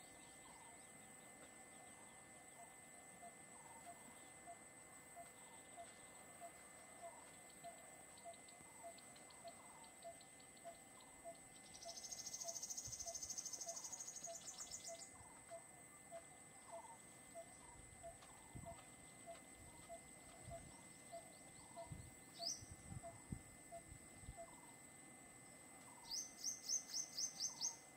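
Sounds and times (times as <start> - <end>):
high insect whine: 0.0 - 27.9
pulsing insect trill: 0.0 - 27.9.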